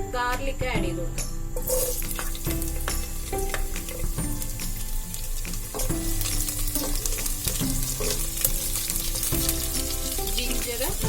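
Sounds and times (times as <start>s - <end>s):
garlic sizzling in hot oil: 1.6s - 11.0s
utensil clicking against pan: 1.6s - 11.0s.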